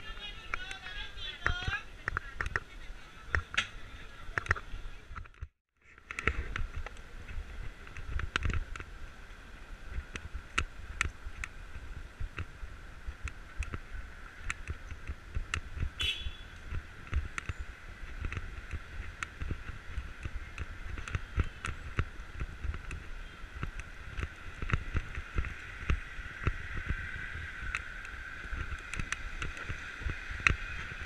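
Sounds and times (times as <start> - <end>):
wind on microphone: 0.0 - 31.0.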